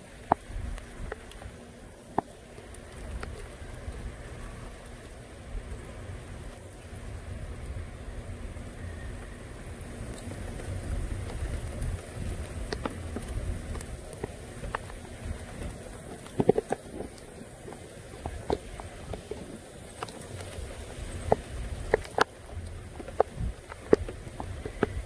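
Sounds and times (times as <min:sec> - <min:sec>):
steady rain falling: 0:00.0 - 0:25.0
wind rumbling on microphone: 0:00.0 - 0:25.0.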